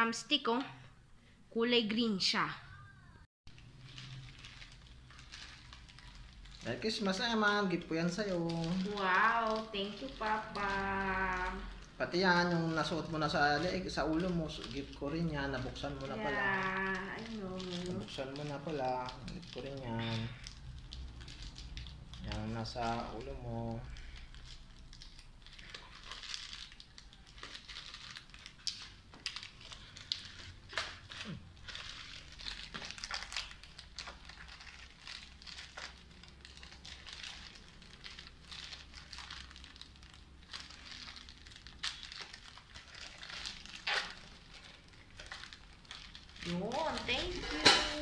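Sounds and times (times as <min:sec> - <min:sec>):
wrapping paper rustling and crinkling: 0:03.5 - 0:48.0.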